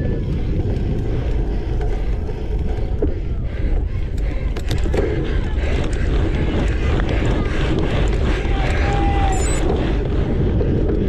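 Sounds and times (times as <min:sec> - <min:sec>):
bike tyres rumbling on dirt: 0:00.0 - 0:11.0
wind buffeting microphone: 0:00.0 - 0:11.0
sharp clicks and rattles: 0:00.3 - 0:11.0.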